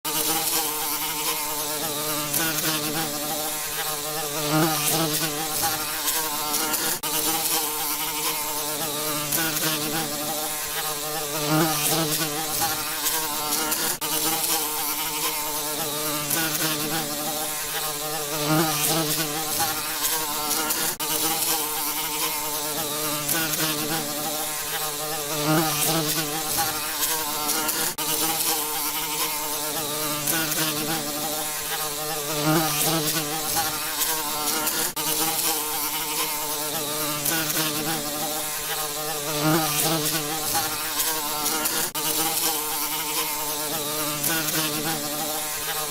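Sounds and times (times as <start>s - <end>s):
bees buzzing: 0.1s - 45.9s.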